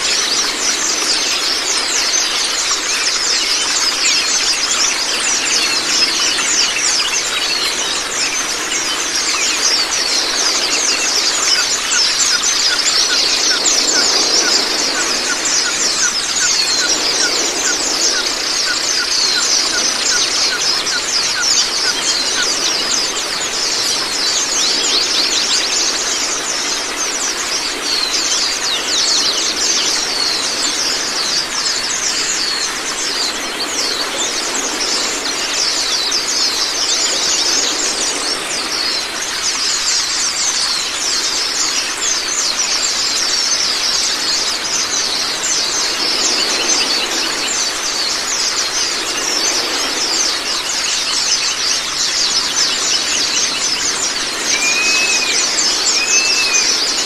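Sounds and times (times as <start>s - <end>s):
birds chirping and twittering: 0.0s - 57.0s
running water rushing: 0.0s - 57.0s.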